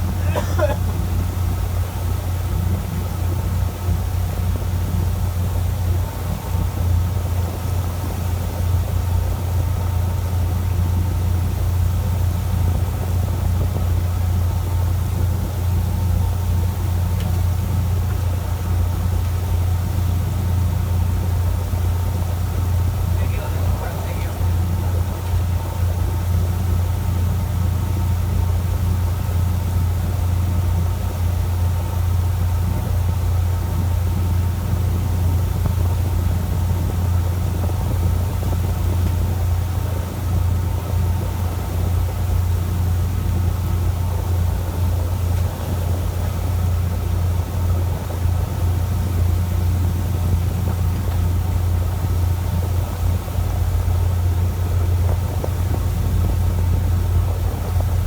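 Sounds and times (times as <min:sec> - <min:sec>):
boat engine humming: 0:00.0 - 0:58.0
water rushing under boat: 0:00.0 - 0:58.0.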